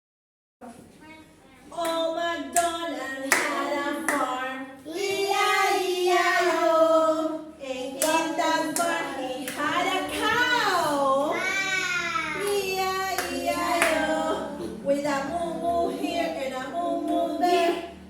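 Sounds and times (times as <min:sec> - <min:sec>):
person singing children's song: 0:01.7 - 0:18.0.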